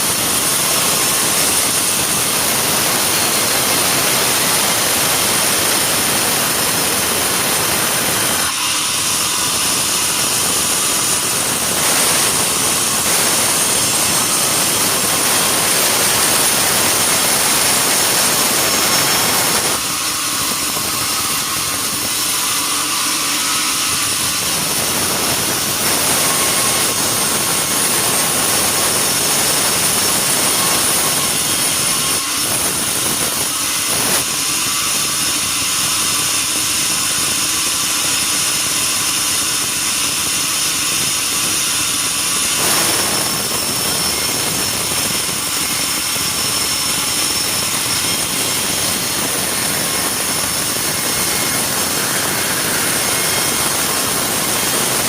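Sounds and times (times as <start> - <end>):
sawmill saw cutting timber: 0.0 - 55.0.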